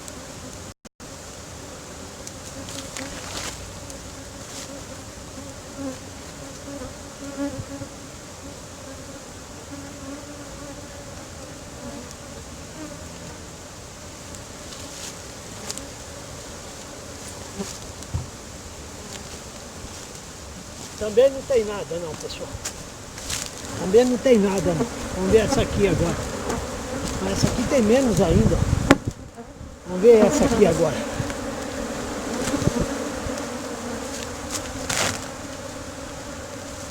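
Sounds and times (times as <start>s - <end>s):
honeybees buzzing: 0.0s - 36.9s.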